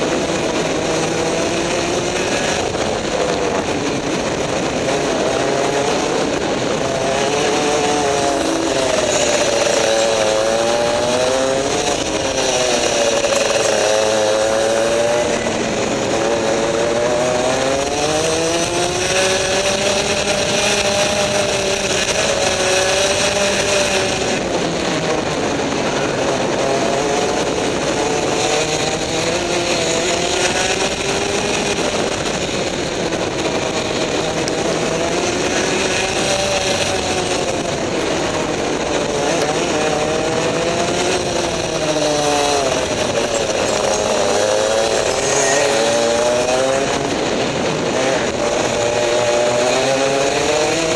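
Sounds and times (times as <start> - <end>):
kart engine accelerating and slowing: 0.0 - 50.9.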